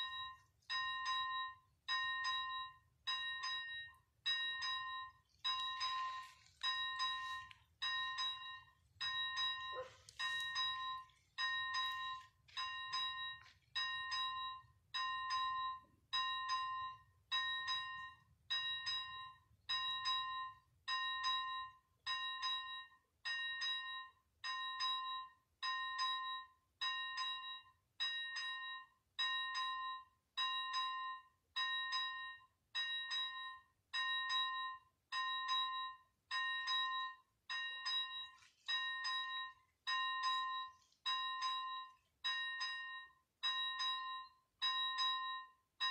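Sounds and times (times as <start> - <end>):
level crossing bell ringing: 0.0 - 45.9.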